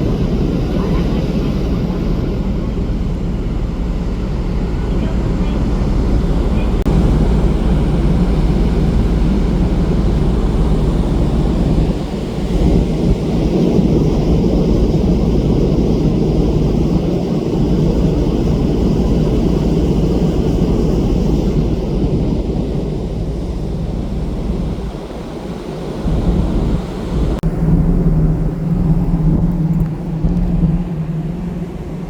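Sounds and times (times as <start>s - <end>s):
rushing air and sea: 0.0s - 32.0s
ship running noise: 0.0s - 32.0s.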